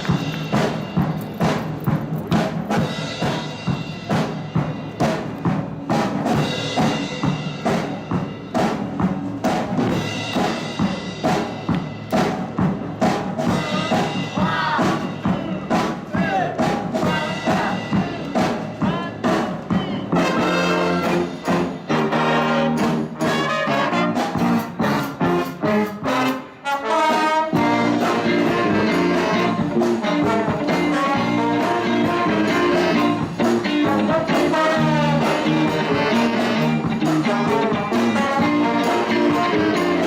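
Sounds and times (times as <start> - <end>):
live band with horn section: 0.0 - 40.0.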